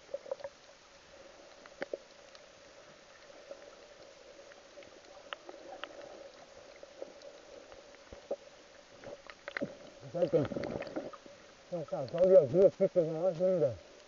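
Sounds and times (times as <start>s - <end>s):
sharp clicks and crackles: 0.0s - 11.3s, 11.9s - 14.0s
faint underwater hum: 0.0s - 14.0s.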